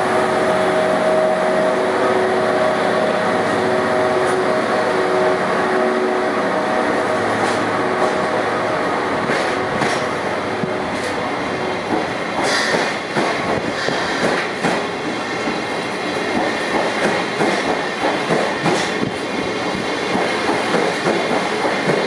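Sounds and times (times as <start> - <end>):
locomotive hum: 0.0 - 22.0
train wheels rumbling: 0.0 - 22.0.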